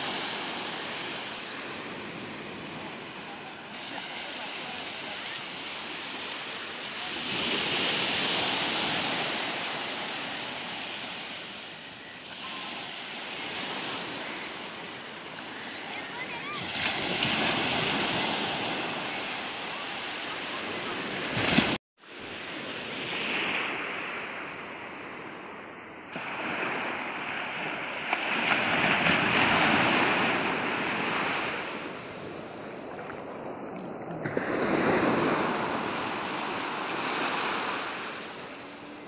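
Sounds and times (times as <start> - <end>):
waves washing on sandy shore: 0.0 - 39.0.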